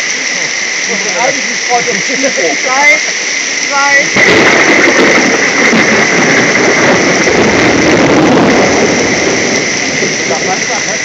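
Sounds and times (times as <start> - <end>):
torrential rain pouring: 0.0 - 11.0.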